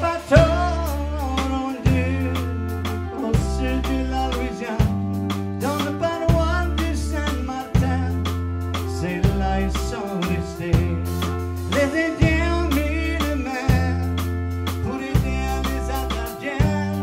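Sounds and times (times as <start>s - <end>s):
button accordion: 0.0s - 17.0s
drum kit: 0.0s - 17.0s
man singing: 0.0s - 17.0s.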